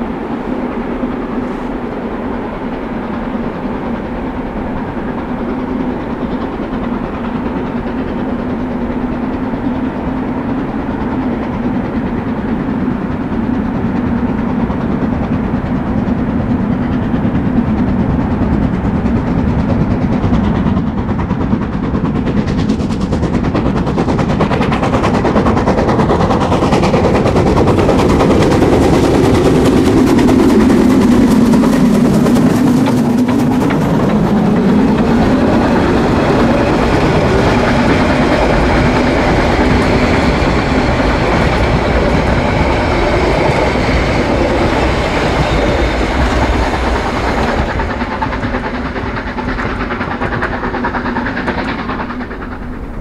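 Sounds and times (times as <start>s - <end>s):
train rumbling with rail clatter: 0.0s - 53.0s.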